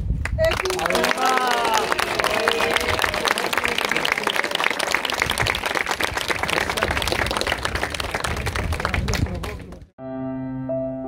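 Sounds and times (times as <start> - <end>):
people applauding: 0.3 - 9.9.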